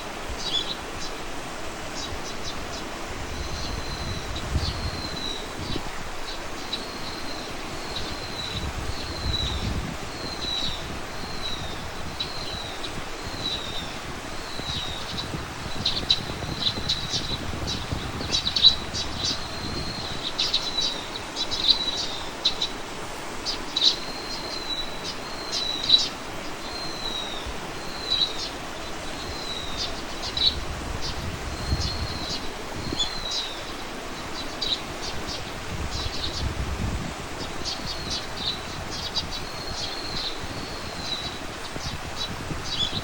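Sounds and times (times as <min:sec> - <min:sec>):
songbird chirping: 0:00.0 - 0:43.0.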